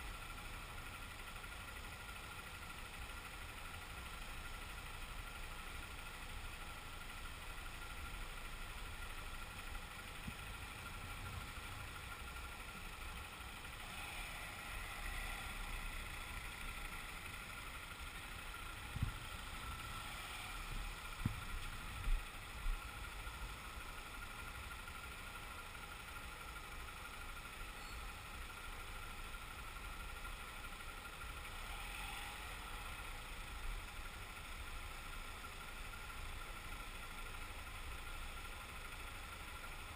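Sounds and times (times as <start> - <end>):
car traffic noise: 0.0 - 39.9
motorcycle engine running: 0.0 - 39.9.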